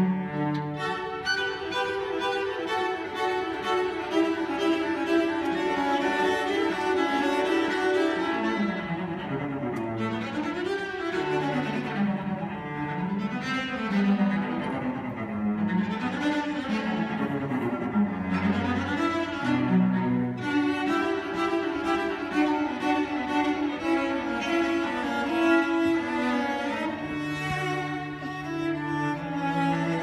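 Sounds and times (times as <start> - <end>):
cello duet: 0.0 - 30.0.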